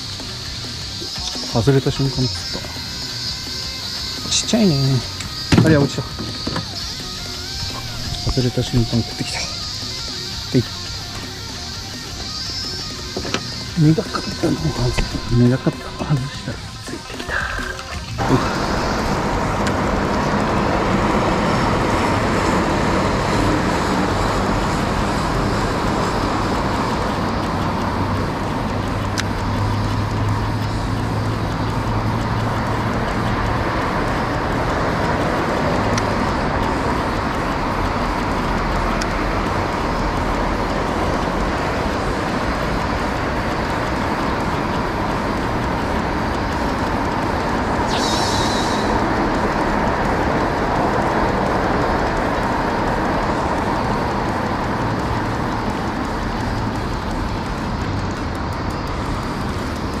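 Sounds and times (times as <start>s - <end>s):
boat motor running: 0.0s - 60.0s
higher-pitched hiss: 0.0s - 60.0s
steady rumbling rushing noise: 0.0s - 60.0s.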